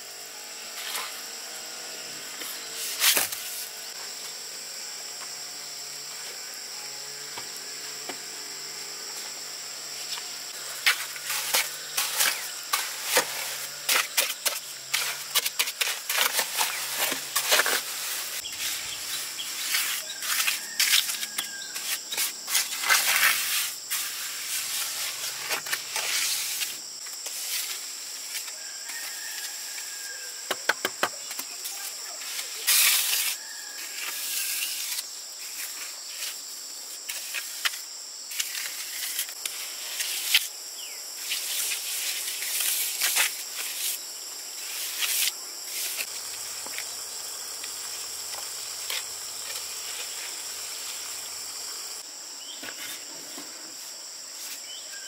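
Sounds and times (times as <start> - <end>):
insect chorus: 0.0 - 55.0.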